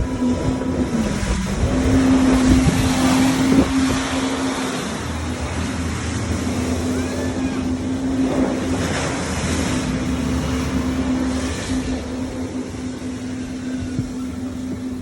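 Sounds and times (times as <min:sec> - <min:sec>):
low rumble: 0:00.0 - 0:15.0
rushing water: 0:00.0 - 0:15.0
watercraft engine running: 0:00.0 - 0:15.0
wind noise: 0:00.0 - 0:15.0.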